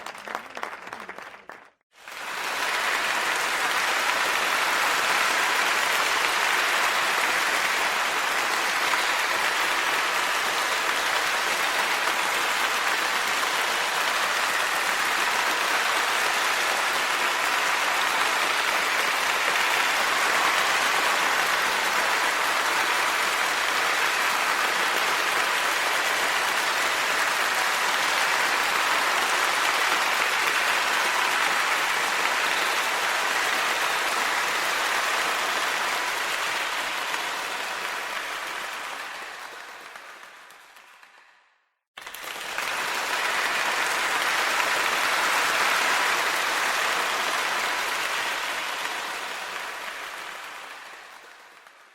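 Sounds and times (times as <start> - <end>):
crowd applauding: 0.0 - 51.9.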